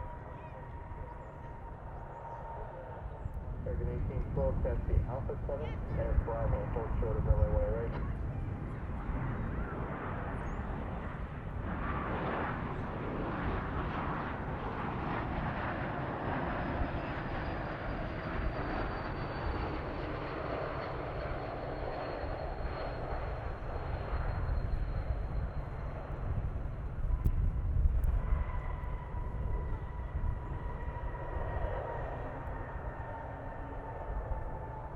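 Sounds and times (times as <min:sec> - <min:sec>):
high turbine whine: 0:00.0 - 0:34.9
jet airliner engines passing: 0:00.0 - 0:34.9.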